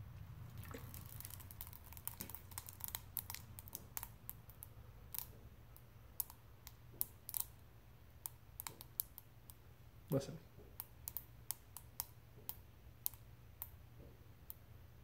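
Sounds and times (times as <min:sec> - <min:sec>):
desiccant beads crackling and popping: 0:00.6 - 0:09.6, 0:10.7 - 0:13.8.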